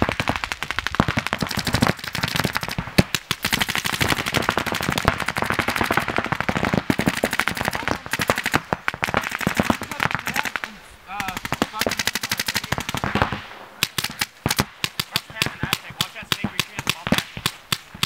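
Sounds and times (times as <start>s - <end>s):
paintball markers firing: 0.0s - 18.0s.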